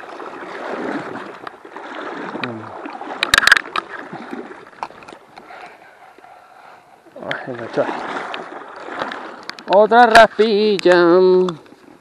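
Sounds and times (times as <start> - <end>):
river water rushing: 0.0 - 10.7.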